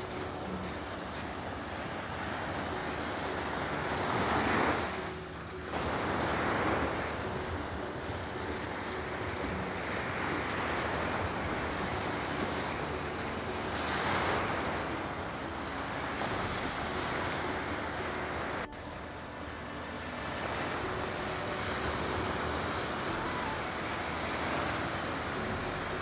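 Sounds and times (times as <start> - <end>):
waves washing up beach: 0.0 - 26.0.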